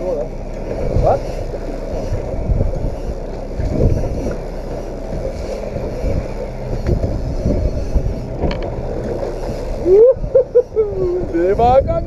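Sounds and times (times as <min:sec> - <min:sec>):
outboard motor running: 0:00.0 - 0:12.0
water against a hull: 0:00.0 - 0:12.0
wind buffeting the microphone: 0:00.7 - 0:12.0.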